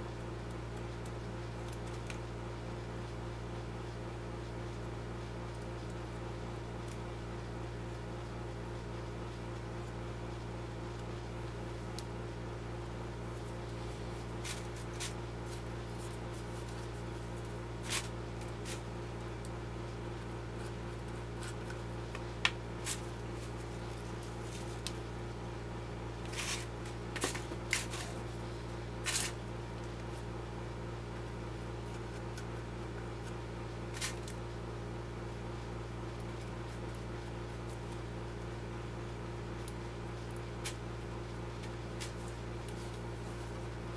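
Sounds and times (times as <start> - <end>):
steady electrical hum: 0.0 - 43.9.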